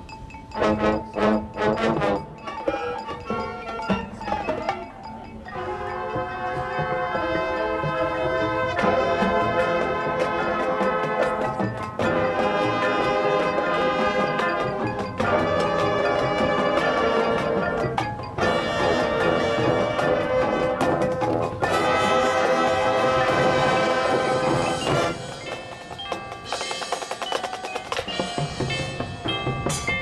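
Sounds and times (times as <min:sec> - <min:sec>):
drums: 0:00.0 - 0:30.0
mallet percussion notes: 0:00.0 - 0:30.0
marching band brass chords: 0:00.5 - 0:04.5, 0:05.4 - 0:30.0.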